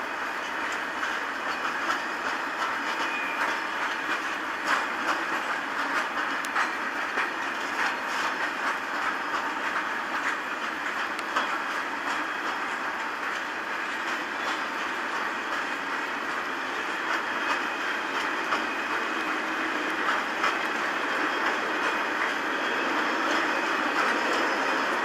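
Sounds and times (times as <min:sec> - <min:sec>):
freight train rolling past: 0:00.0 - 0:25.0
wheels clacking over rail joints: 0:00.0 - 0:25.0.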